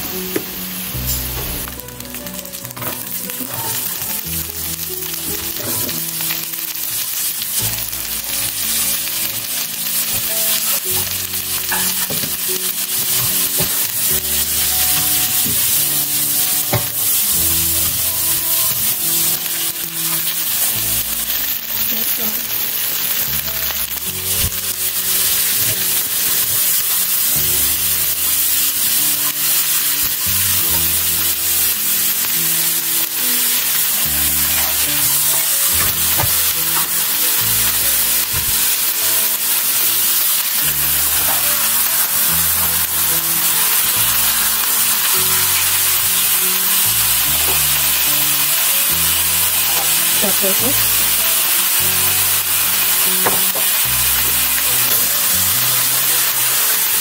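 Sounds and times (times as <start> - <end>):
music playing: 0.0 - 57.0
stir-fry sizzling in a pan: 0.0 - 57.0.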